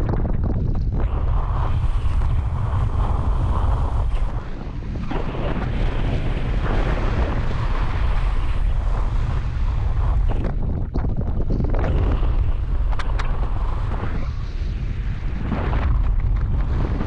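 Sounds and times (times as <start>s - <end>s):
wind rumbling over microphone: 0.0s - 17.0s.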